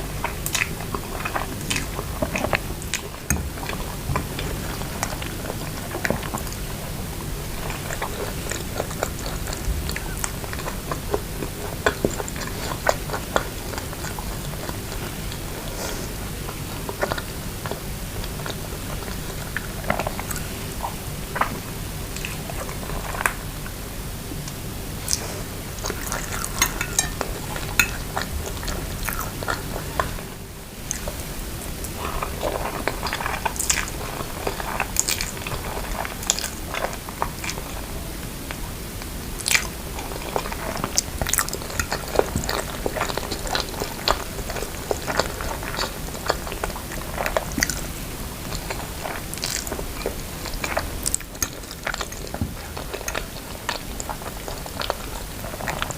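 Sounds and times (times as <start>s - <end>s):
chewing noodles close up: 0.0s - 23.8s, 24.5s - 55.9s.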